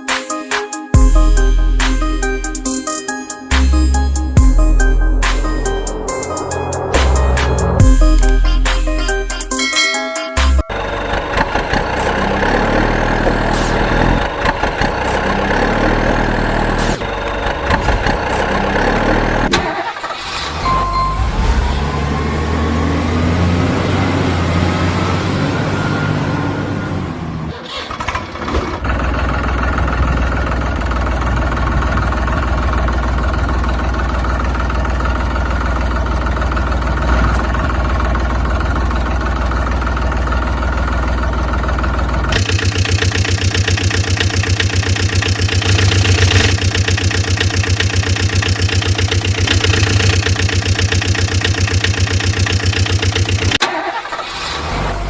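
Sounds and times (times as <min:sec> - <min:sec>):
vehicle engine running: 0:03.5 - 0:09.7, 0:10.3 - 0:55.0.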